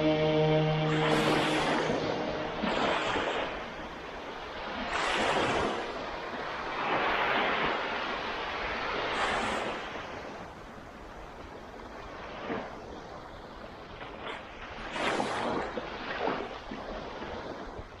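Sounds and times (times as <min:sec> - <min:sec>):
sea waves breaking on a beach: 0:00.0 - 0:18.0.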